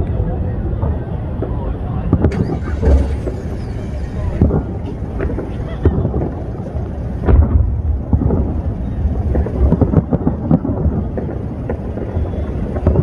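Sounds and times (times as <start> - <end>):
low rumble: 0.0 - 13.0
firework booms: 0.7 - 13.0.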